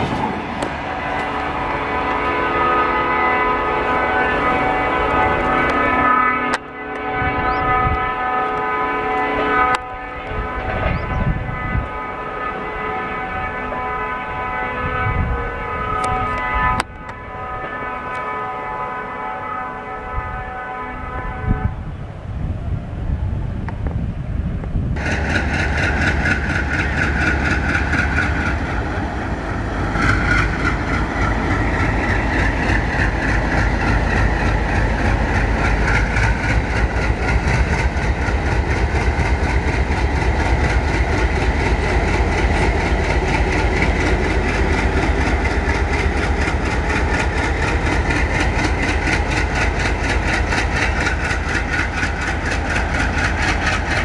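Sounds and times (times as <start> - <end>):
diesel locomotive engine throbbing: 0.0 - 54.0.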